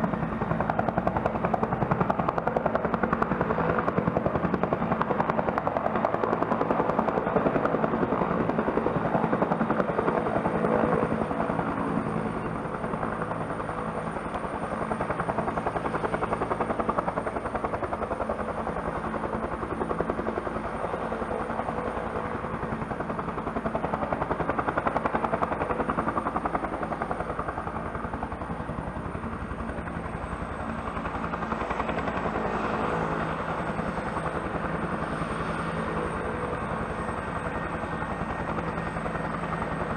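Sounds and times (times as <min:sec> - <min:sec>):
helicopter rotor beating: 0:00.0 - 0:39.9
helicopter turbine whine: 0:00.0 - 0:39.9.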